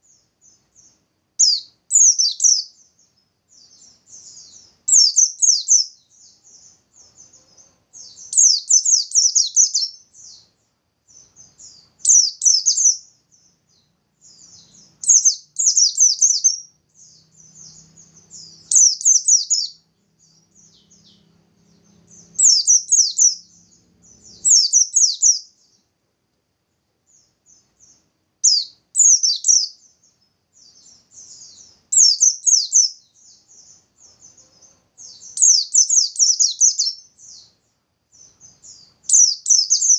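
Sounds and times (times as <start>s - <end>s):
bird twittering song: 0.0s - 26.0s, 27.0s - 39.9s
soft bird chirps: 0.0s - 26.1s, 26.7s - 39.9s.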